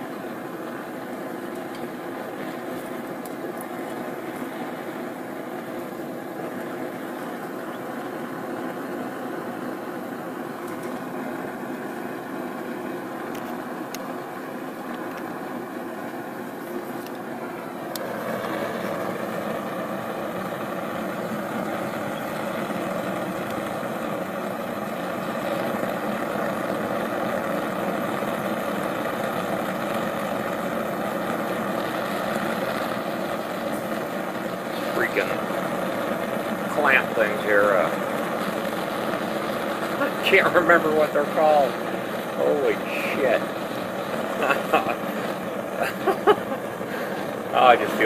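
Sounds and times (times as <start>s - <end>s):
gas burner flame rushing: 0.0s - 48.0s.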